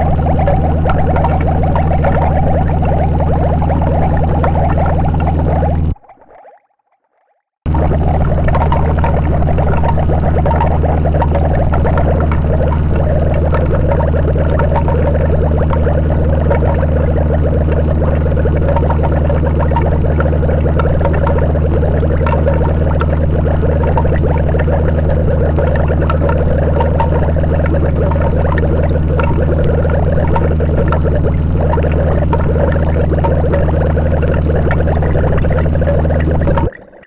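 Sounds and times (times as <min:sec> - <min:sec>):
steady low hum: 0:00.0 - 0:06.0, 0:07.7 - 0:36.8
dense crackle noise music: 0:00.0 - 0:37.0.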